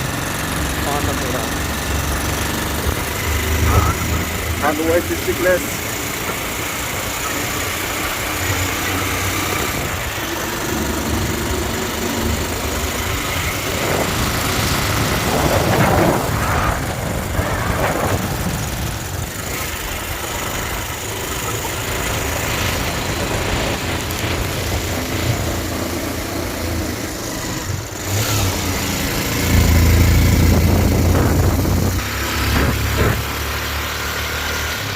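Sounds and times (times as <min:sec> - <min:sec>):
motorcycle engine running: 0:00.0 - 0:34.9
rush of noise: 0:00.0 - 0:34.9.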